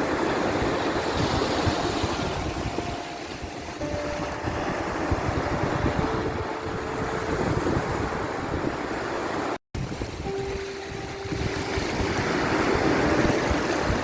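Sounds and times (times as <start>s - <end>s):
sea surf rumbling: 0.0s - 14.0s
wind buffeting microphone: 0.0s - 14.0s
faint held tones: 1.0s - 8.6s, 10.2s - 14.0s.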